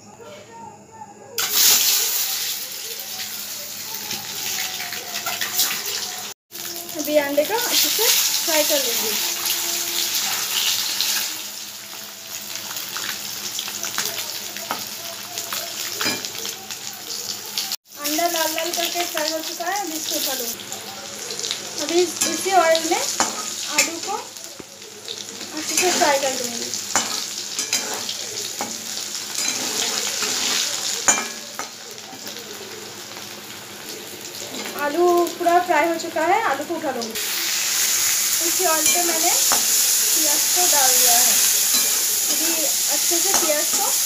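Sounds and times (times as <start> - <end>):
eggs sizzling in hot oil: 1.4 - 44.0.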